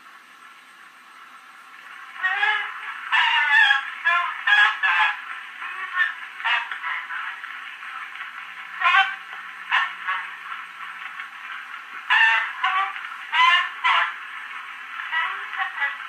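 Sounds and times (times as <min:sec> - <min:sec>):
surface hiss: 0:00.0 - 0:16.0
faint woman's voice on phonograph: 0:02.0 - 0:16.0.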